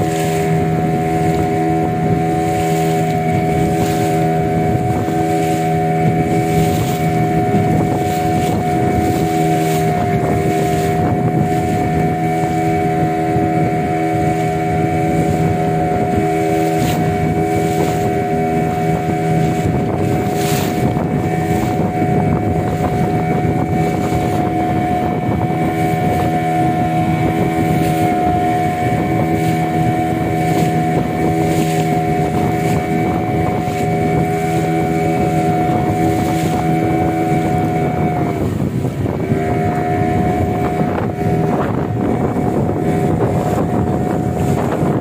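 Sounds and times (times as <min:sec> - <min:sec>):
boat engine running: 0:00.0 - 0:45.0
wind on microphone: 0:00.0 - 0:45.0.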